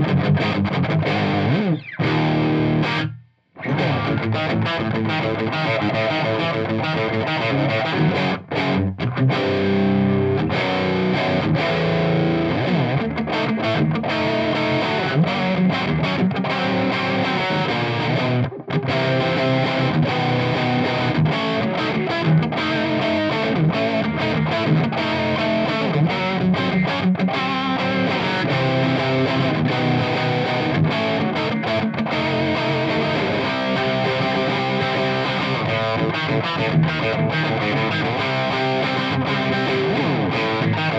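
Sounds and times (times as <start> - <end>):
distorted electric guitar riffing: 0.0 - 40.9.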